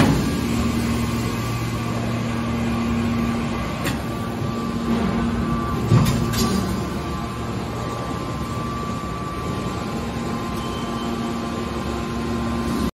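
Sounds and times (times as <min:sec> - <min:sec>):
high hydraulic whine: 0:00.0 - 0:12.9
hydraulic baler humming: 0:00.0 - 0:12.9.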